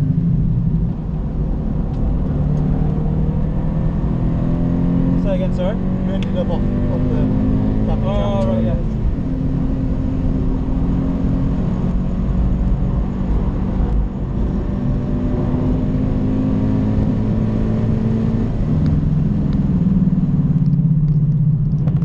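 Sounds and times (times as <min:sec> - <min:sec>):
car engine under load: 0:00.0 - 0:22.0
road noise: 0:00.0 - 0:22.0.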